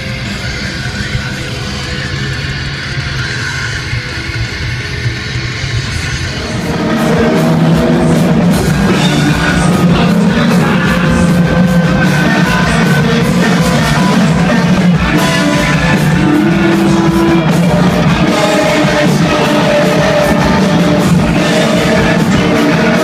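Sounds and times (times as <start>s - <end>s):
bass guitar: 0.0s - 23.0s
drums: 0.0s - 23.0s
electric guitar: 0.0s - 23.0s
person singing: 0.0s - 23.0s.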